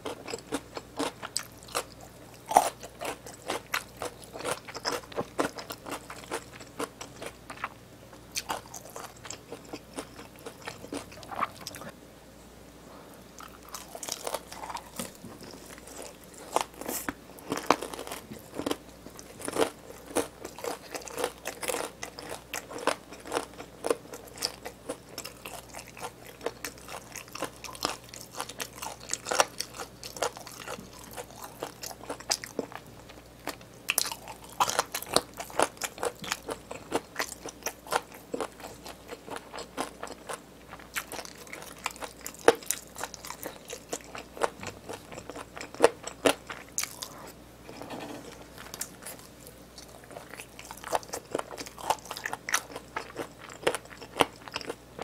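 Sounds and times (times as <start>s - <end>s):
crunchy chewing of fried chicken: 0.0s - 12.0s, 13.4s - 55.0s.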